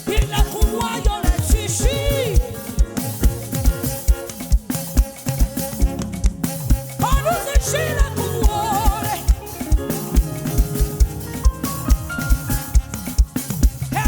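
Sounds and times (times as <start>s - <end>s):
bass: 0.0s - 14.0s
held keyboard chords: 1.8s - 14.0s.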